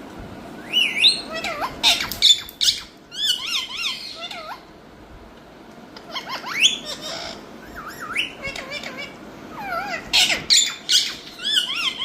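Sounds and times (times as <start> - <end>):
parakeet chirping and whistling: 0.6 - 4.6, 6.1 - 12.0.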